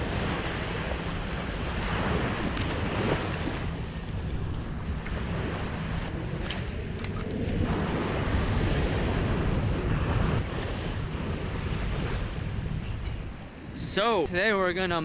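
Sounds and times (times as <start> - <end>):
ocean surf washing on a beach: 0.0 - 15.0
wind buffeting the microphone: 0.0 - 15.0.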